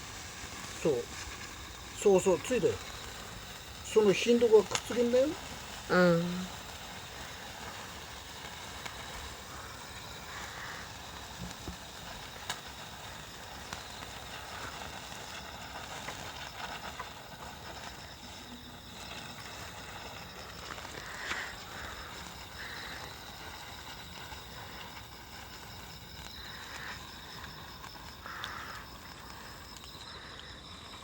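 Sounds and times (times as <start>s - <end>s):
handheld firework hissing: 0.0s - 31.0s
small crackles and pops: 0.0s - 31.0s.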